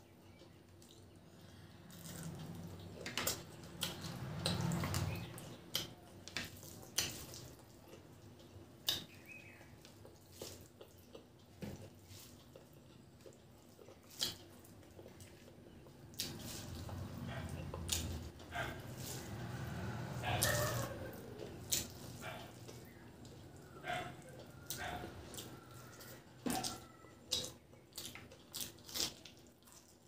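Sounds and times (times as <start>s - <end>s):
wet chewing and lip-smacking: 1.9s - 30.0s.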